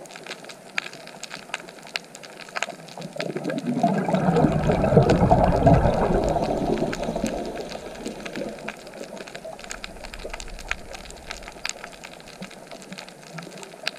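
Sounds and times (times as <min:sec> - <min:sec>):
underwater clicks and crackles: 0:00.0 - 0:13.9
underwater exhaled bubbles: 0:02.4 - 0:13.9.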